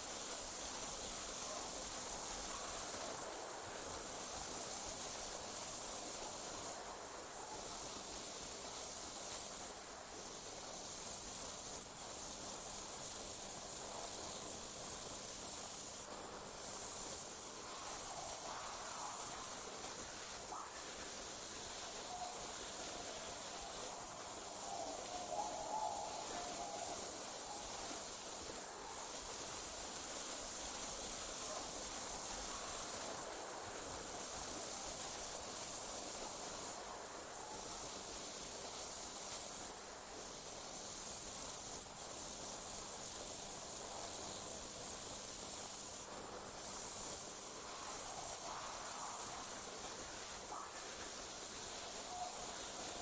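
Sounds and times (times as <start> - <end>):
crickets trilling: 0.0 - 53.0
faint background hiss: 0.0 - 53.0.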